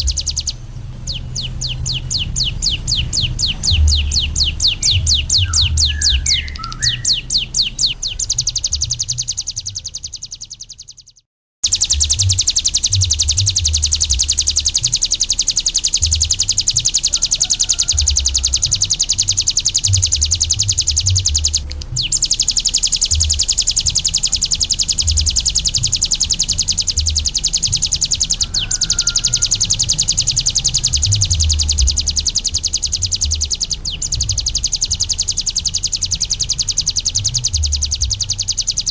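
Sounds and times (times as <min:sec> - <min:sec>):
low thumping rumbles: 0:00.0 - 0:10.3, 0:17.9 - 0:38.9
bird fast high trill: 0:00.0 - 0:38.9.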